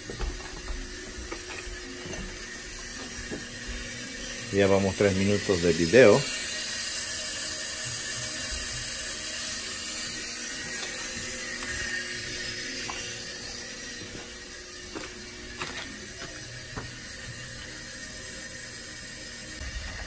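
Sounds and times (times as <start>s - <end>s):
water hissing into a boiler: 0.0s - 20.0s.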